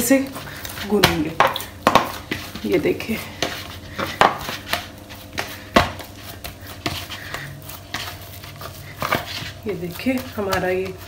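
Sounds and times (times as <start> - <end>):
dough thudding and slapping: 0.0 - 11.0.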